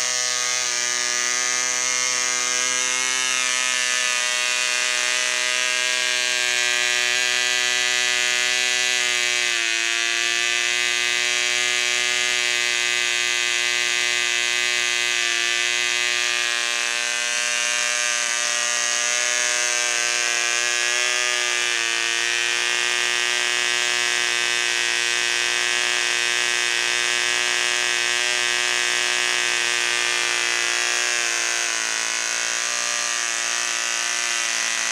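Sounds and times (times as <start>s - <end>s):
model diesel engine buzzing: 0.0s - 34.9s.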